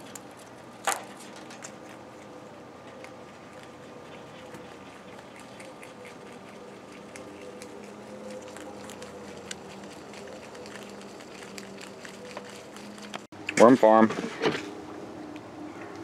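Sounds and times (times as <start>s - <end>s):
rabbit chewing greens: 0.0s - 14.0s
faint steady hum: 0.0s - 16.0s.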